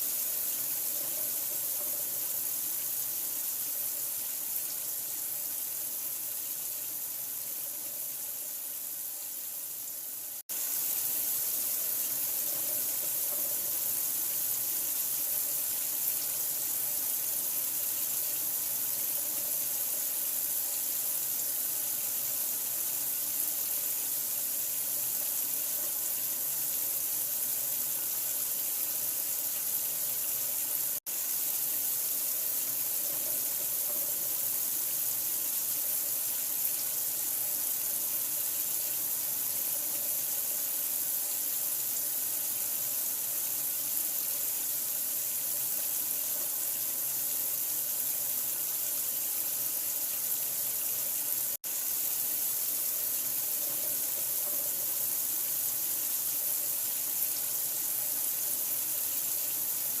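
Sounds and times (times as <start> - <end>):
water running: 0.0 - 60.0.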